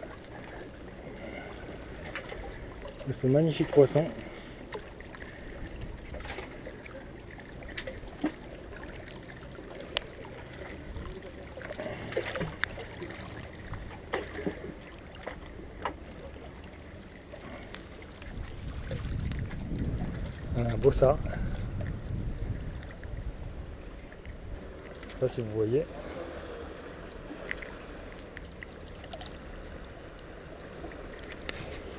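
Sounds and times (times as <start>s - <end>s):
sea and wind wash: 0.0s - 31.9s.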